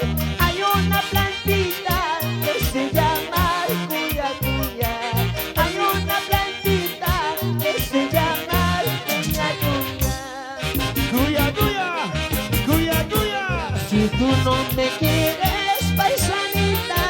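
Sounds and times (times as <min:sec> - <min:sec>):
band playing latin dance music: 0:00.0 - 0:17.0.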